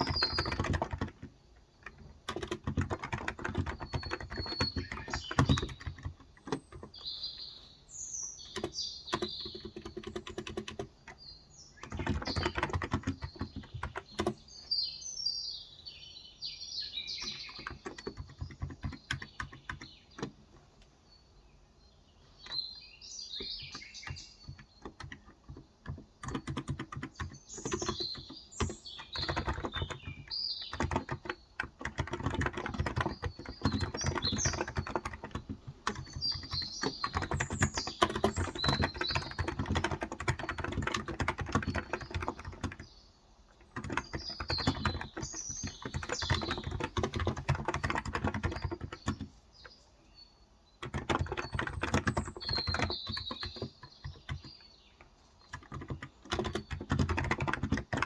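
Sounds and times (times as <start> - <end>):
quick typing on keyboard: 0.0 - 7.5, 8.4 - 14.6, 17.1 - 20.6, 23.4 - 42.9, 43.5 - 49.7, 50.8 - 58.0
small birds chirping: 0.0 - 58.0.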